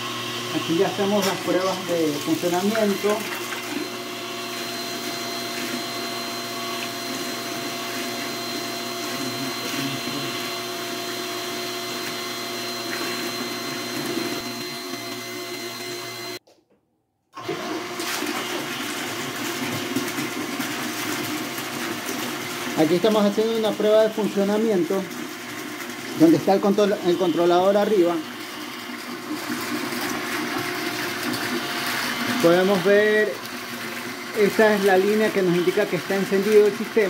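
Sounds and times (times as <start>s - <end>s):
electric water pump humming: 0.0s - 16.4s, 17.4s - 37.0s
water rushing through pipes: 0.6s - 10.8s, 17.4s - 37.0s.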